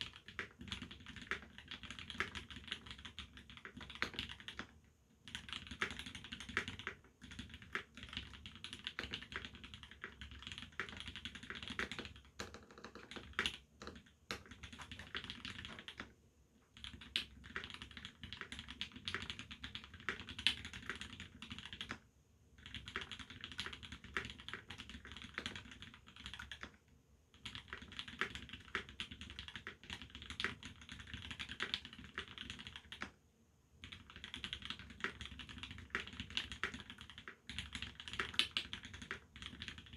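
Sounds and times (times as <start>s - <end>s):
typing on mechanical keyboard: 0.0s - 22.0s, 22.6s - 33.2s, 33.8s - 39.9s.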